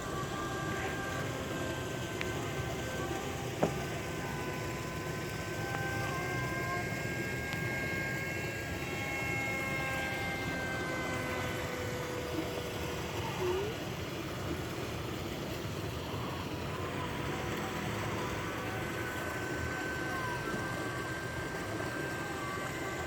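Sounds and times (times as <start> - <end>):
model jet high whine: 0.0 - 23.0.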